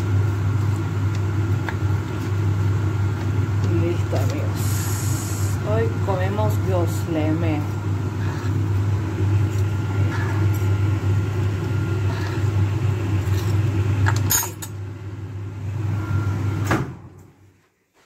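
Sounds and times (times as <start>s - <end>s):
low machine hum: 0.0s - 17.6s.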